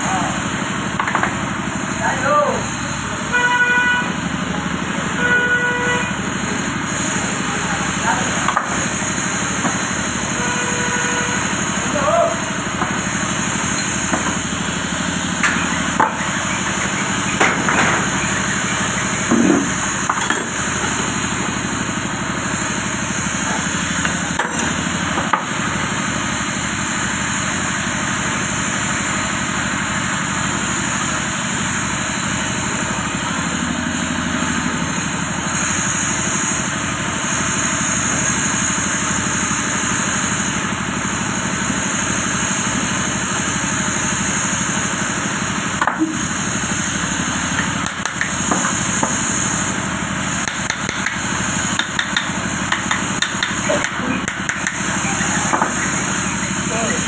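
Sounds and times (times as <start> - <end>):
steady noisy hum: 0.0 - 57.0.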